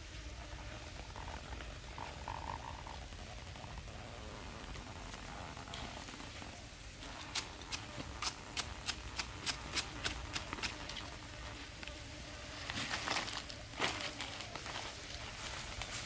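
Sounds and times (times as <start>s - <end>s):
leaves rustling: 0.0s - 16.0s.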